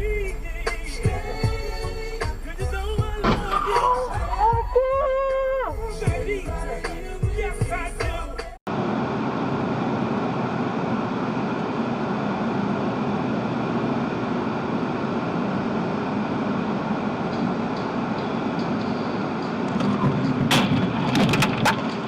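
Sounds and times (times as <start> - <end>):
vehicle road and engine noise: 0.0 - 6.8, 7.4 - 22.0.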